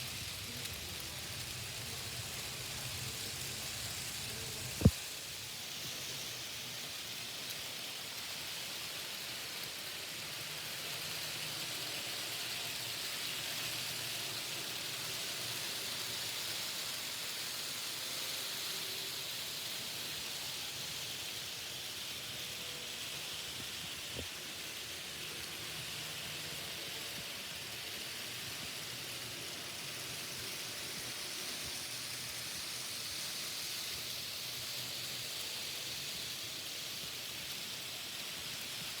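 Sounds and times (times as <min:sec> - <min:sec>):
faint thin motor tones: 0:00.0 - 0:39.0
model train motors whirring: 0:00.0 - 0:39.0.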